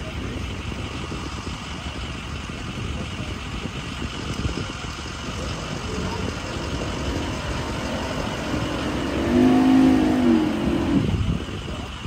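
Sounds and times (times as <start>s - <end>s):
outboard motor rumbling: 0.0s - 12.0s.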